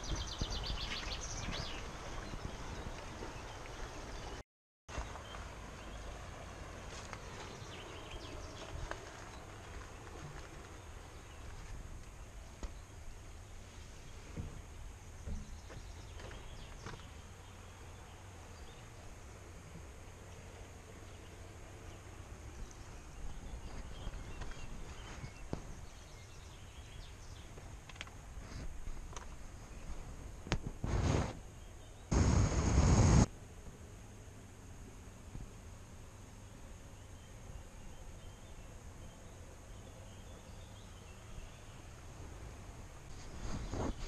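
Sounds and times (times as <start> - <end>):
running river water: 0.0 - 44.0.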